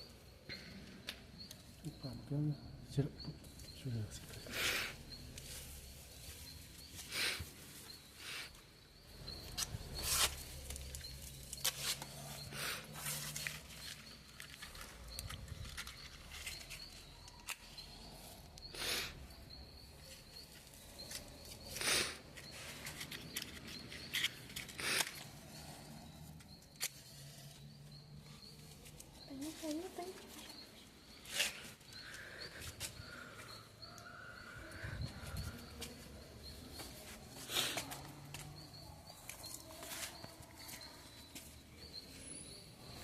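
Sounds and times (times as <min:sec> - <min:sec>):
faint high chirping: 0:00.0 - 0:43.0.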